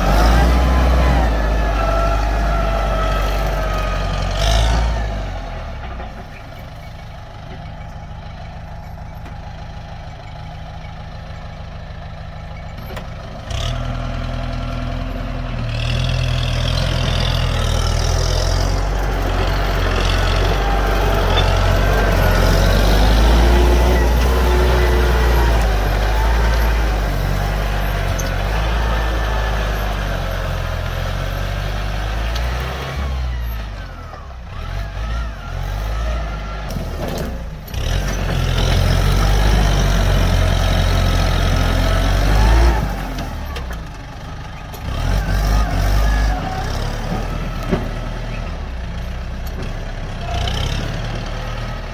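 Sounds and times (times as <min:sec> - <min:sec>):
diesel tractor engine running: 0:00.0 - 0:51.9.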